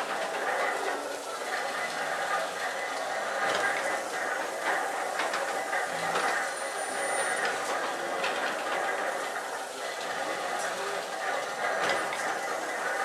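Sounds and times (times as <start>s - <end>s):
steam engine clatter and hiss: 0.0s - 13.0s.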